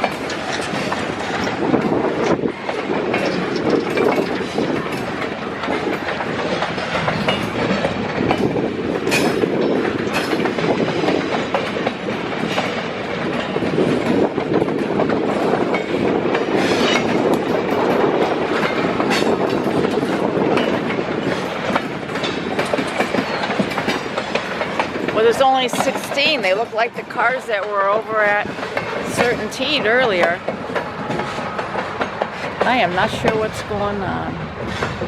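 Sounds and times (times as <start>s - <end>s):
freight train cars rumbling: 0.0s - 35.0s
wheels clicking over rail joints: 0.0s - 35.0s.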